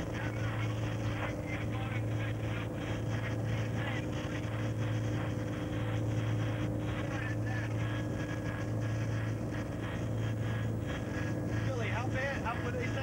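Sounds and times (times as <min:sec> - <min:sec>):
helicopter cabin drone: 0:00.0 - 0:13.0.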